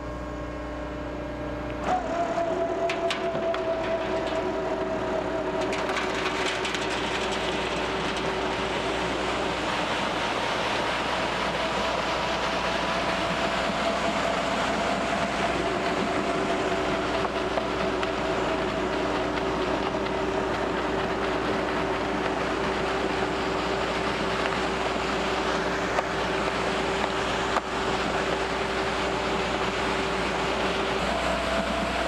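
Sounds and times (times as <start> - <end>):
lower tone: 0.0 - 32.0
concrete mixer running: 1.4 - 32.0.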